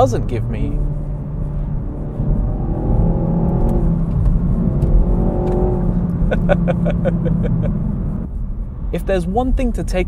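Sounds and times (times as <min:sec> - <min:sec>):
car engine droning: 0:00.0 - 0:09.7.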